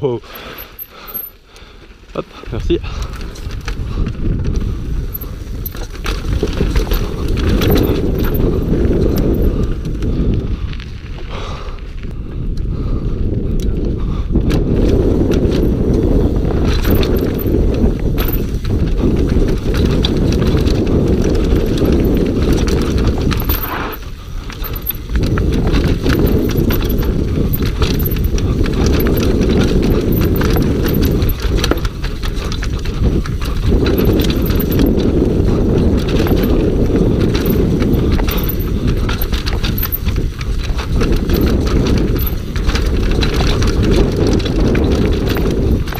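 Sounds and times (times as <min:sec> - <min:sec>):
mountain bike rattling over rocks: 0:00.2 - 0:12.4, 0:13.3 - 0:45.9.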